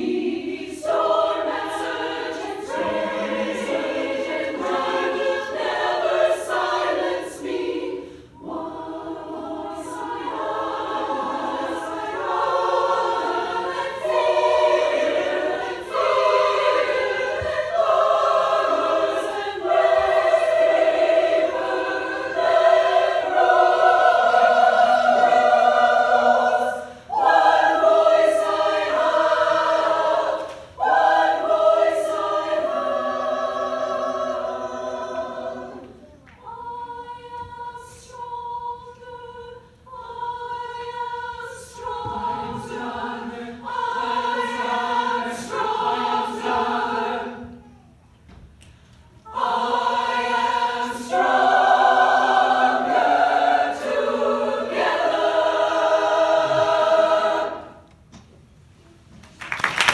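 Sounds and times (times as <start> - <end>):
women's choir singing in harmony: 0.0 - 59.9.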